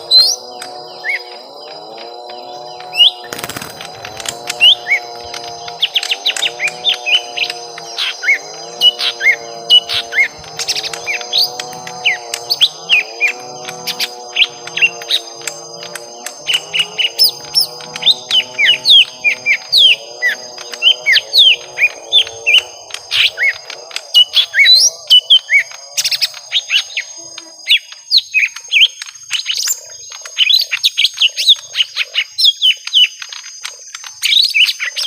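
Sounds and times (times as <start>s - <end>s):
low bird warbling: 0.0s - 30.8s
birds chirping and whistling: 0.0s - 35.0s.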